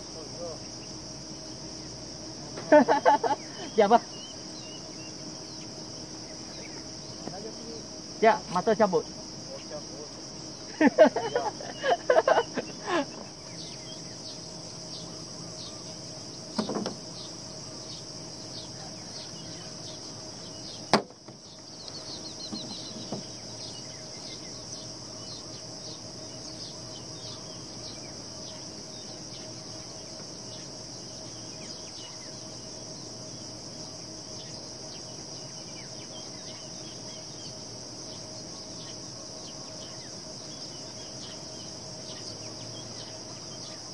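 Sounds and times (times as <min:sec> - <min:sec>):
insects shrilling: 0:00.0 - 0:43.9.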